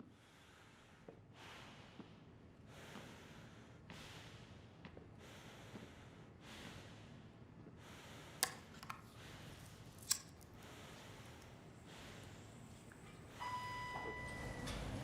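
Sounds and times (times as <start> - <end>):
soft breathing: 0.1 - 13.5.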